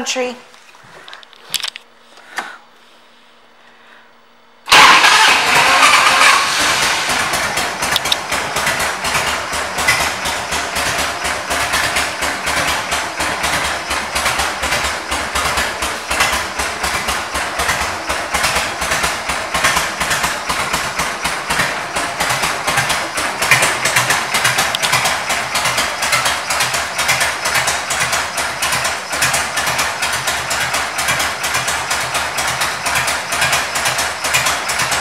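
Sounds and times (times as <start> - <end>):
motorcycle engine idling: 6.5 - 35.0.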